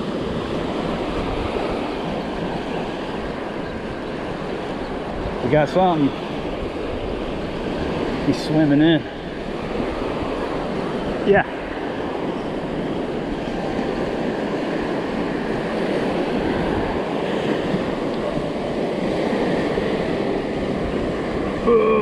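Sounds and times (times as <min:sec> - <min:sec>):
surf washing on beach: 0:00.0 - 0:22.0
wind rumble on microphone: 0:00.0 - 0:22.0.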